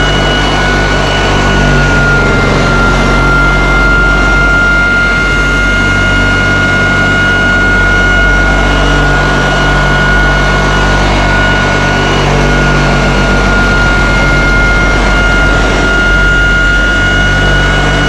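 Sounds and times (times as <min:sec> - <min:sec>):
floor sander humming and whining: 0:00.0 - 0:18.0.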